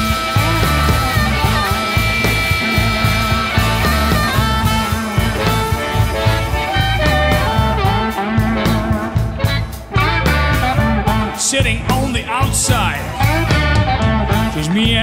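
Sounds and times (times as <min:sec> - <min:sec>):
bass and drum groove: 0:00.0 - 0:15.0
bending lead guitar notes: 0:00.0 - 0:15.0
electric blues band instrumental: 0:00.0 - 0:15.0.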